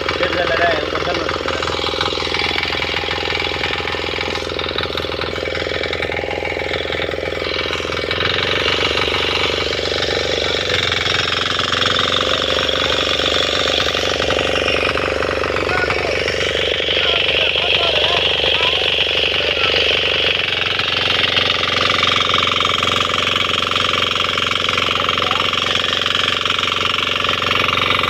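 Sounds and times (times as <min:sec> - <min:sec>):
diesel engine chugging: 0:00.0 - 0:28.0.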